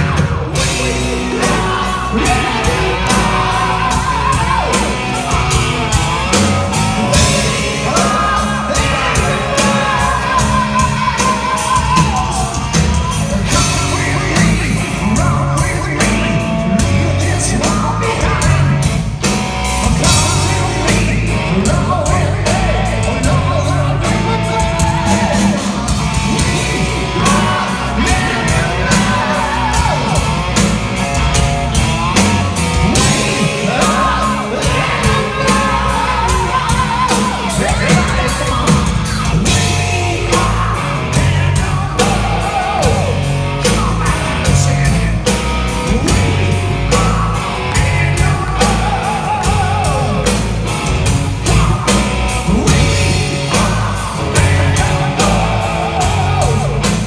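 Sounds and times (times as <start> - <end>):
man singing and yelling: 0.0 - 19.1, 19.9 - 57.0
bass guitar: 0.0 - 57.0
distorted electric guitars: 0.0 - 57.0
drums: 0.0 - 57.0.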